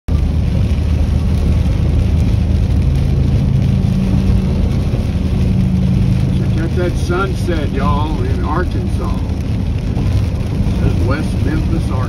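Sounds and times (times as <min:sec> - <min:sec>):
rain hissing: 0:00.1 - 0:12.0
vehicle engine and tyre noise: 0:00.1 - 0:12.0.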